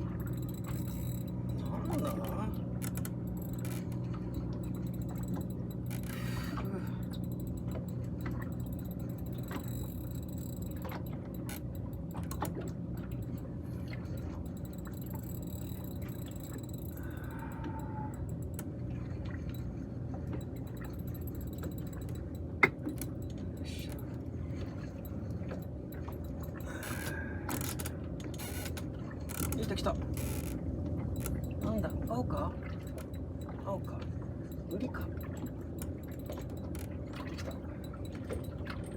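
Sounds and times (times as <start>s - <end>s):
fishing reel clicking: 0.0s - 18.8s, 19.4s - 24.2s, 24.8s - 38.9s
steady low hum: 0.0s - 38.9s.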